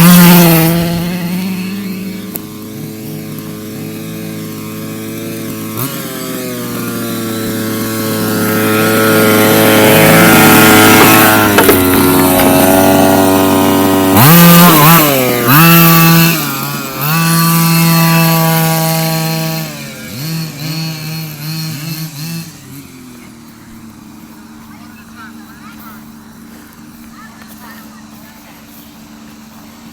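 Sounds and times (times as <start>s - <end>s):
toy car motor revving: 0.0s - 29.9s.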